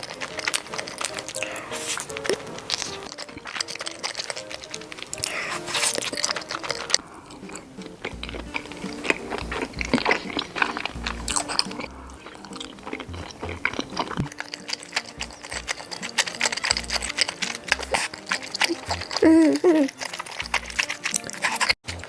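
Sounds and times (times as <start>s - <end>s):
person chewing and biting: 0.0s - 22.0s
soft background music: 0.0s - 22.0s.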